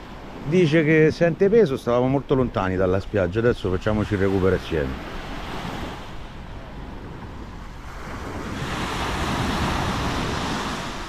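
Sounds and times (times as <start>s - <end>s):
waves washing up a shore: 0.0s - 11.0s
wind rumbling on microphone: 1.2s - 11.0s.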